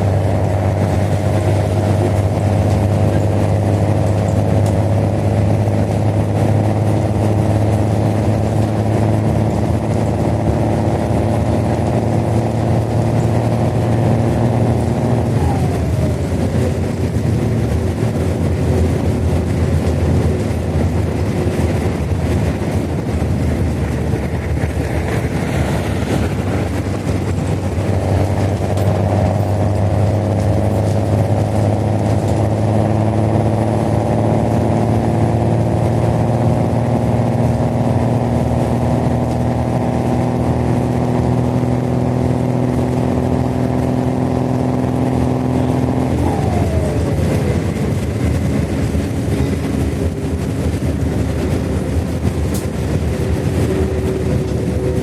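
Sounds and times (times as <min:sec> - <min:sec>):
bus diesel engine running: 0:00.0 - 0:55.0
road and body noise: 0:00.0 - 0:55.0.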